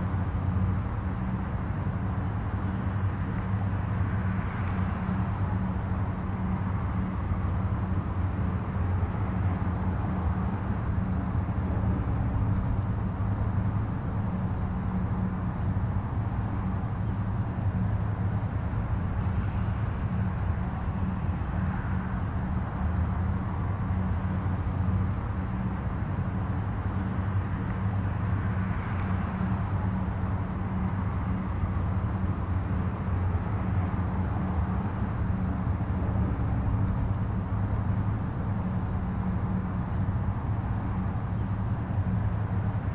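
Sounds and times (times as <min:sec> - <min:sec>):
distant highway traffic rumble: 0:00.0 - 0:42.9.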